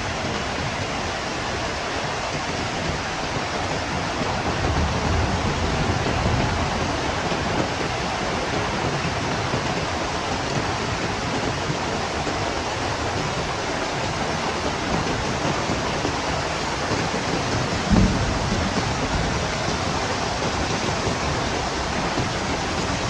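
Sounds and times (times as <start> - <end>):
heavy rain in strong wind: 0.0 - 23.0.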